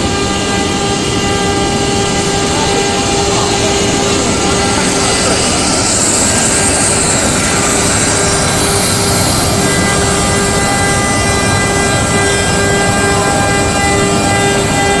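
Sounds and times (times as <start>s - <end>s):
machining noise: 0.0s - 15.0s
router spindle whine: 0.0s - 15.0s.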